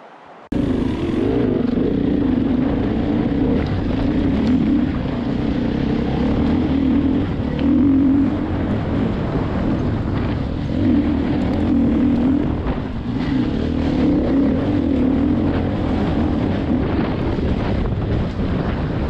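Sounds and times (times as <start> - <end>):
motorcycle engine revving: 0.5 - 19.0.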